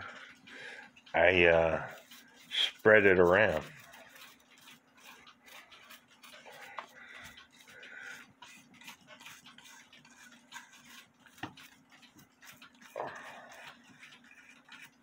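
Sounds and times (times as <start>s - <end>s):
small brush scrubbing wood: 0.0s - 15.0s.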